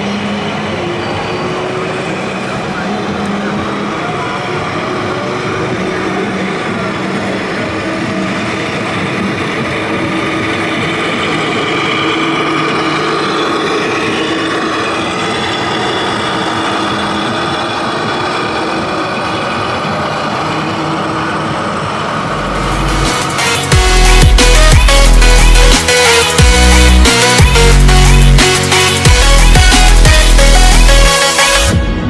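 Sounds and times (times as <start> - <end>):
model trucks engine hum: 0.0 - 31.7.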